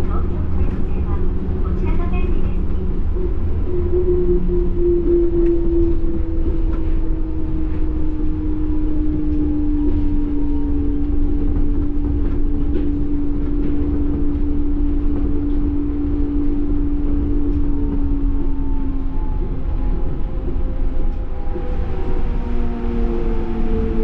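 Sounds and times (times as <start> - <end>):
train rumbling: 0.0 - 24.0
train motor whine: 3.2 - 24.0.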